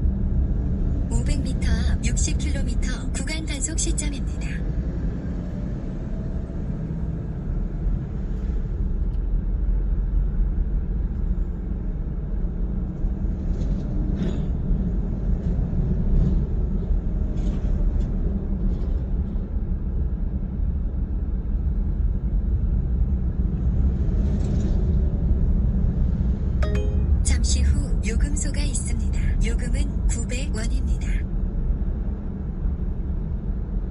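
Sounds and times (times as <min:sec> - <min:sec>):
car engine and tyre rumble: 0:00.0 - 0:26.5, 0:28.6 - 0:33.9.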